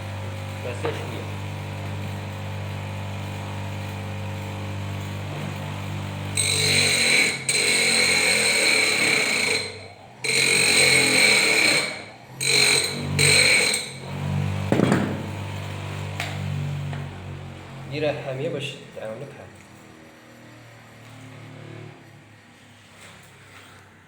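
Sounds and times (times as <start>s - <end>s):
power tool whining: 0.0s - 23.8s.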